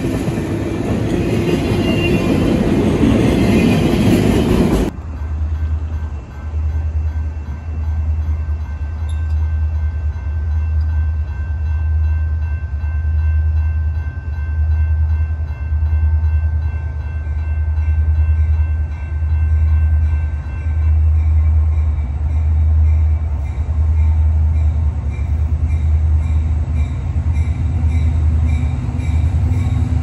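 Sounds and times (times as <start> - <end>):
diesel freight train rumbling: 0.0 - 30.0.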